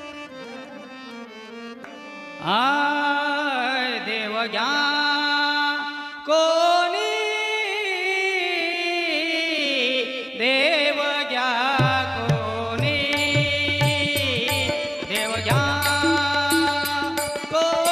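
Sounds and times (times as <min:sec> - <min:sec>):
man singing devotional song: 0:00.0 - 0:17.9.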